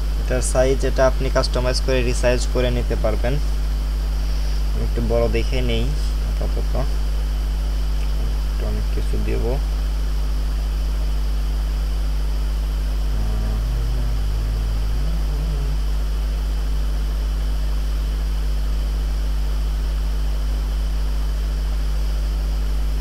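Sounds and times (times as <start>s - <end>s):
constant hiss: 0.0s - 23.0s
low electrical hum: 0.0s - 23.0s.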